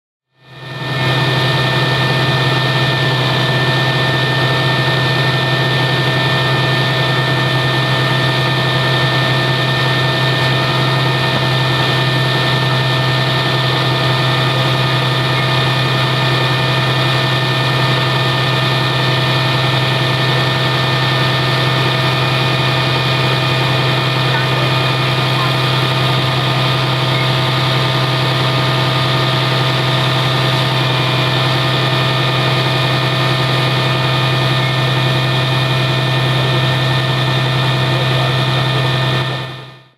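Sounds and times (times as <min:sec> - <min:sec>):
motor humming and whining: 0:00.4 - 0:39.8.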